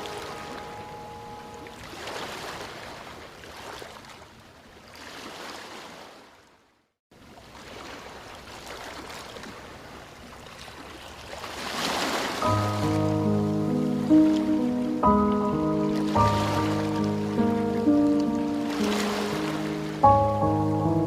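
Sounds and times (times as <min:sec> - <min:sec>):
rushing water: 0:00.0 - 0:06.5, 0:07.2 - 0:21.0.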